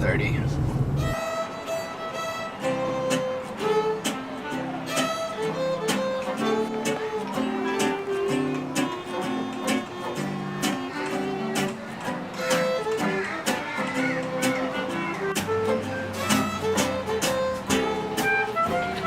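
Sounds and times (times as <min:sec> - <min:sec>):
strummed acoustic guitar: 0:00.0 - 0:19.0
fiddle playing: 0:00.9 - 0:19.0.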